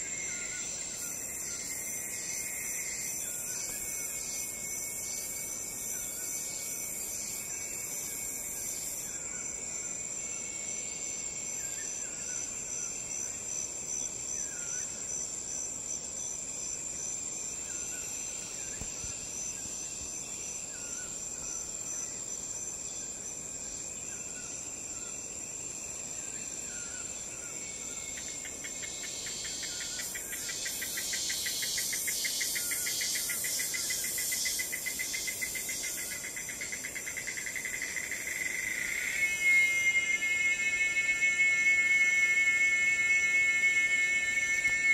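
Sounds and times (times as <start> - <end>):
high-pitched insect tone: 0.0 - 44.9
insect chirps: 0.0 - 44.9
rapid pulsing insect trill: 0.0 - 44.9.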